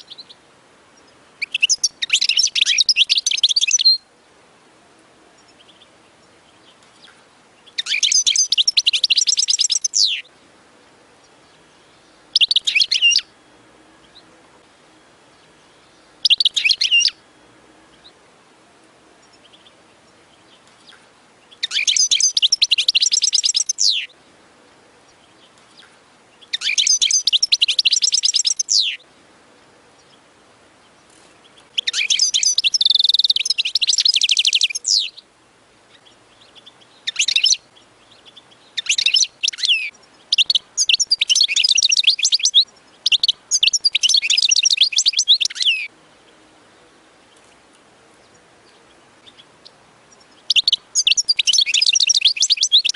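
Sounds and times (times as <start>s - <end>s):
bird twittering song: 0.0s - 4.1s, 5.3s - 52.9s.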